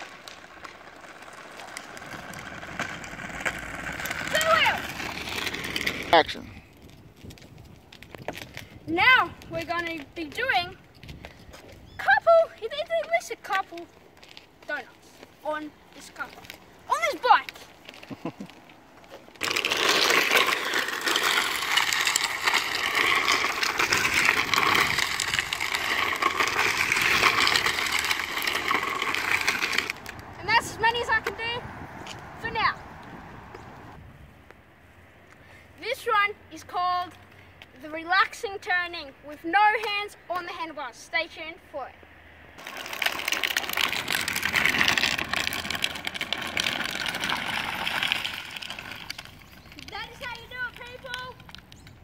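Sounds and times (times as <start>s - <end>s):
plastic wheels scraping on asphalt: 0.0s - 52.0s.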